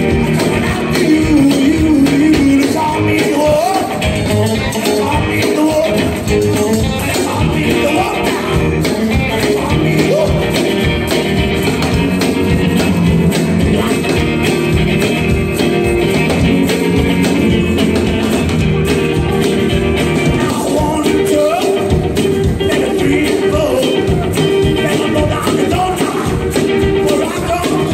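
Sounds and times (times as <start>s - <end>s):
acoustic and electric guitars: 0.0s - 27.9s
drums: 0.0s - 27.9s
upright bass: 0.0s - 27.9s.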